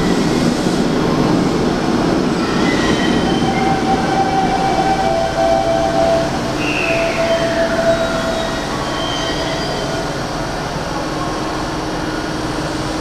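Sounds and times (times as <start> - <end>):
rumble of train cars: 0.0 - 13.0.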